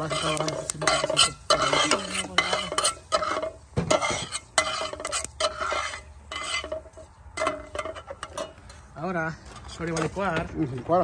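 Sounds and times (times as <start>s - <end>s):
utensil scraping a pan: 0.0s - 10.2s.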